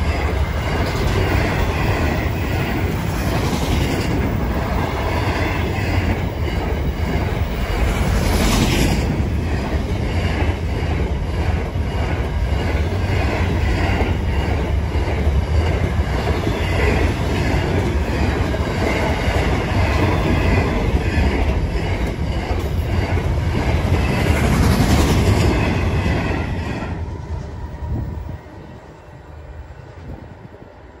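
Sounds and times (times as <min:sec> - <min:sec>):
steel wheels clattering on rails: 0:00.0 - 0:27.1
freight train rolling past: 0:00.0 - 0:31.0.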